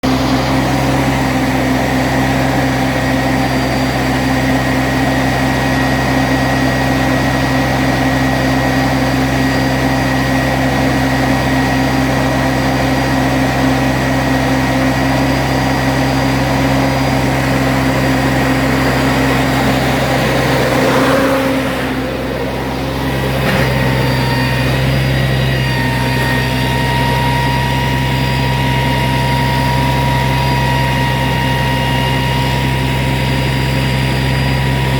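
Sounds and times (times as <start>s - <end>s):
heavy diesel truck engine running: 0.0s - 34.9s.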